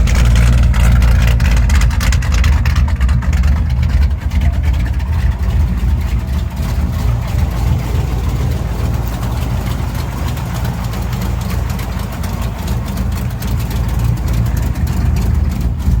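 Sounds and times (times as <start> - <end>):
car engine idling lumpy: 0.0 - 16.0.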